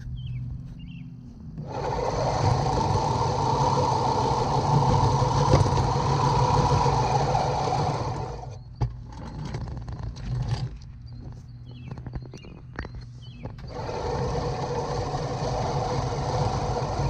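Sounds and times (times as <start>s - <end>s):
reel mower rolling: 1.6s - 11.3s, 11.9s - 17.0s.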